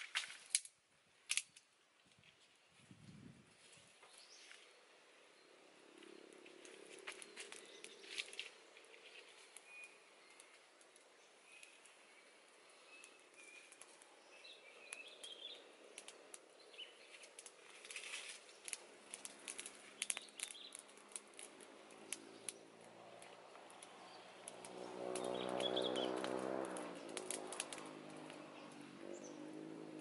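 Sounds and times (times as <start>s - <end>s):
wood fire crackling and popping: 0.0s - 1.7s, 6.3s - 30.0s
birds chirping faintly: 3.7s - 30.0s.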